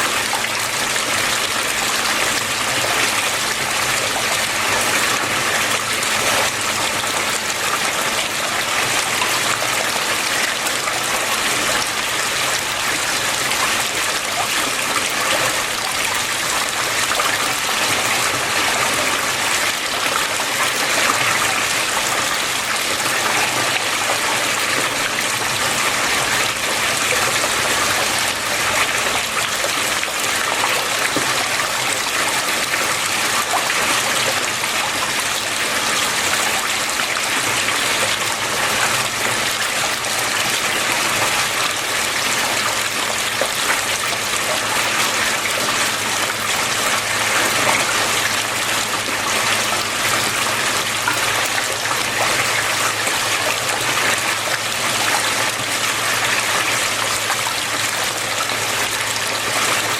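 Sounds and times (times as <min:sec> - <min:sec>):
water flowing: 0:00.0 - 0:59.9.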